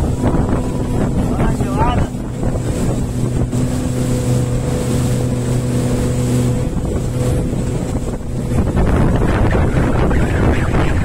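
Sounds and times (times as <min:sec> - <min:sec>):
motorboat engine humming: 0:00.0 - 0:11.0
wind buffeting microphone: 0:00.0 - 0:11.0.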